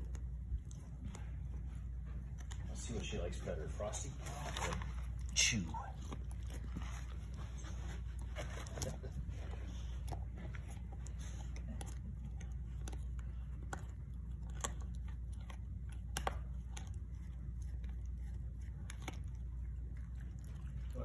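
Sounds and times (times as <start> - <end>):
dog gnawing chew stick: 0.0 - 21.0
low steady hum: 0.0 - 21.0.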